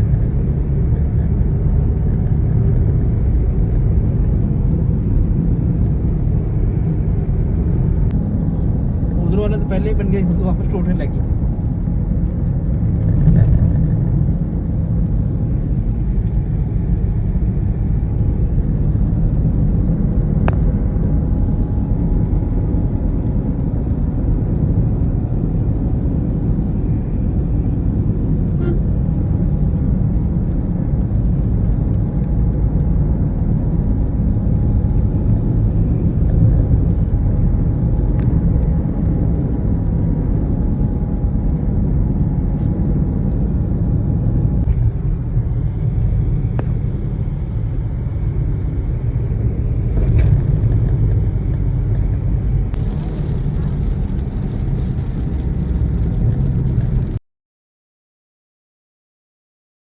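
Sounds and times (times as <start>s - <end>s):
vehicle engine and road noise: 0.0s - 57.2s.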